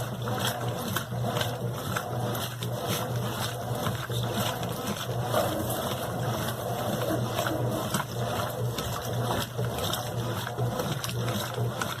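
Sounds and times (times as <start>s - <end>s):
low motor hum: 0.0s - 12.0s
water moving in washing machine: 0.0s - 12.0s.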